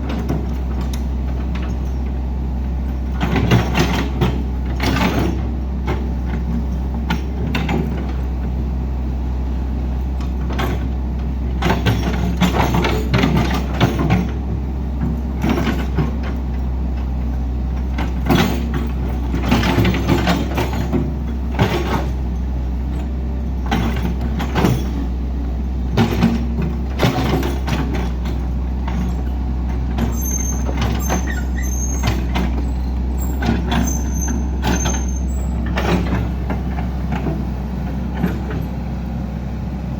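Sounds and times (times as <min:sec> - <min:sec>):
diesel engine running: 0:00.0 - 0:39.9
machinery clanking and knocking: 0:00.0 - 0:39.9.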